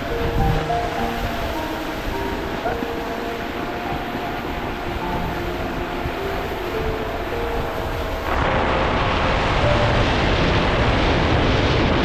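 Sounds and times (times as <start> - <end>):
steady rushing rumbling noise: 0.0 - 12.0.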